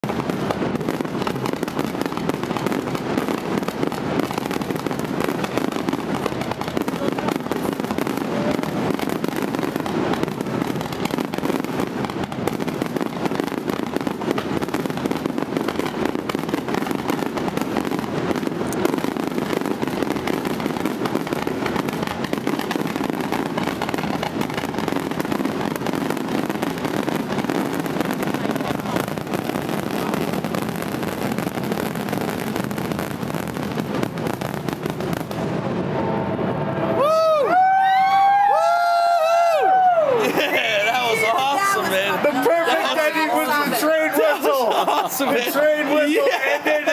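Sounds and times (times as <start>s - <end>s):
fireworks bursting: 0.0s - 46.9s.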